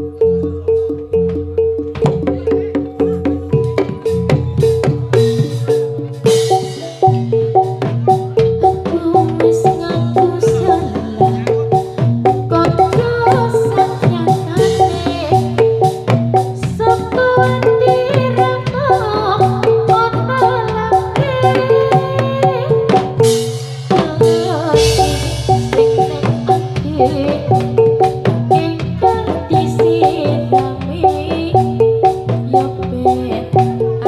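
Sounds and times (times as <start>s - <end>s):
gliding melody line: 0.0s - 34.0s
metallophones repeating note pattern: 0.0s - 34.0s
rapid drumming: 0.0s - 34.0s.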